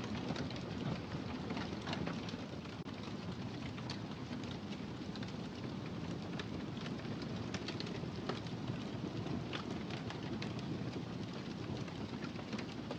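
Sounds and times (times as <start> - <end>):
wood fire crackling: 0.0 - 12.9.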